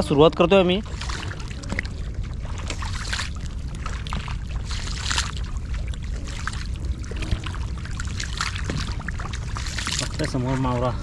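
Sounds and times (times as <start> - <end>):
steady low rumble: 0.0 - 11.0
water splashing from wading: 0.0 - 11.0.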